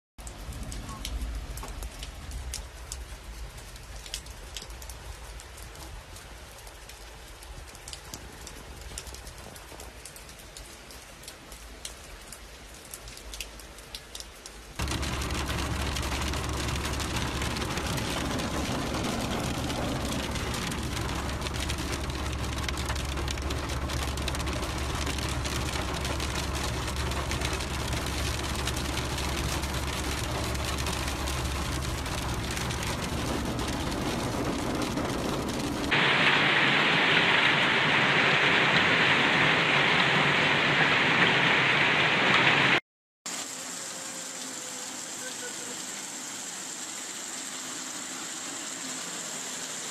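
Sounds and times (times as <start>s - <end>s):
ticks of raindrops: 0.2s - 43.5s
heavy rain pouring: 0.2s - 49.9s.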